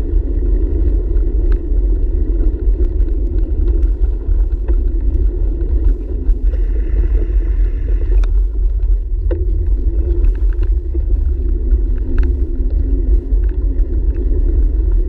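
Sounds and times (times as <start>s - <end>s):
wind and riding vibration rumble: 0.0s - 15.0s
faint clicks: 0.7s - 15.0s.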